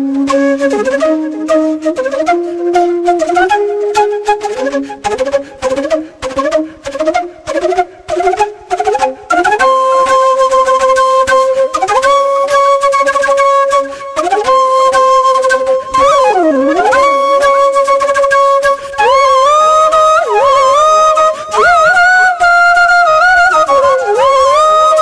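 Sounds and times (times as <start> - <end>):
solo flute melody: 0.0 - 25.0.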